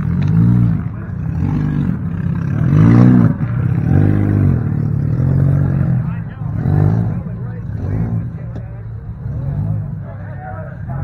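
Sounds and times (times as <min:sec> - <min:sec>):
engine idling: 0:00.0 - 0:11.0
engine revving: 0:00.0 - 0:11.0.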